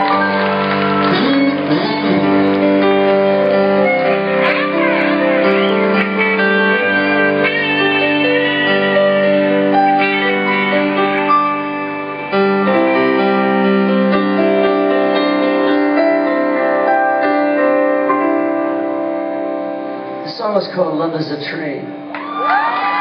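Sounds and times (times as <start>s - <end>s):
live rock band playing: 0.0s - 20.8s
held keyboard chords: 0.0s - 22.1s.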